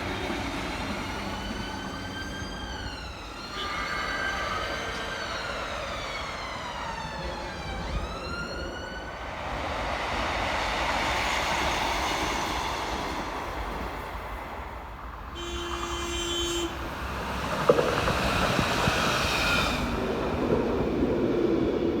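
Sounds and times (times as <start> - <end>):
tram motors whining: 0.0 - 22.0
tram rumbling along track: 0.0 - 22.0.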